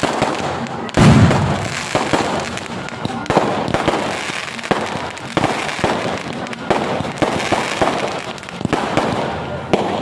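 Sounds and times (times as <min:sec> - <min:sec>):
crackle of sparks: 0:00.0 - 0:10.0.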